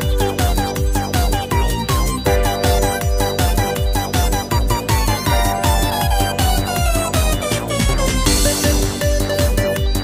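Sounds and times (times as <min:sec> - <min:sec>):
bouncy game-like music: 0:00.0 - 0:10.0.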